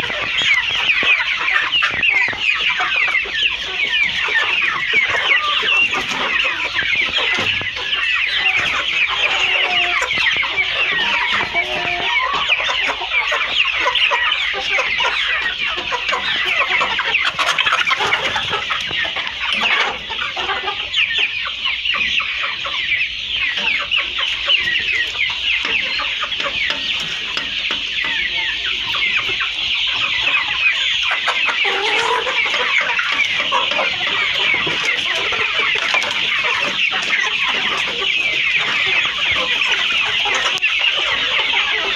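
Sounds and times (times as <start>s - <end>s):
chickens clucking: 0.0s - 41.9s
chickens peeping: 0.0s - 41.9s.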